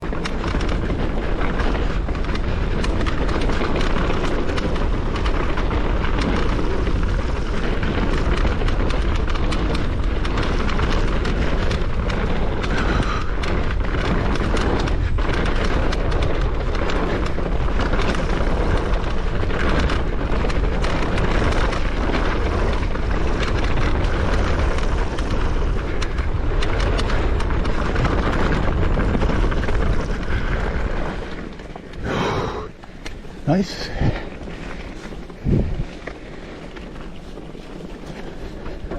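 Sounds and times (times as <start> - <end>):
bike tyres rolling: 0.0 - 38.9
wind buffeting microphone: 0.0 - 38.9.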